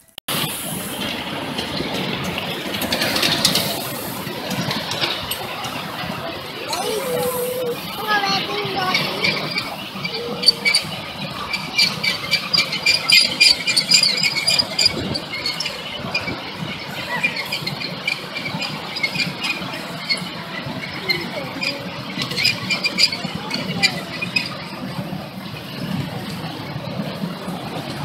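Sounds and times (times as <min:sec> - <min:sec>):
low rumble of moving cars: 0:00.3 - 0:28.0
train wheels squealing on rails: 0:00.3 - 0:28.0.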